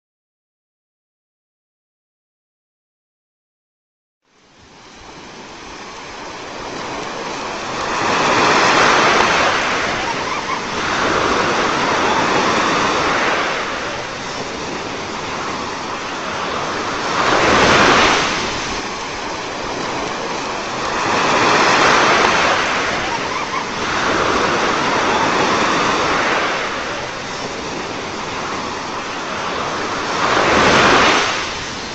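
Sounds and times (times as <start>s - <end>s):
sea surf breaking on beach: 4.3s - 31.9s.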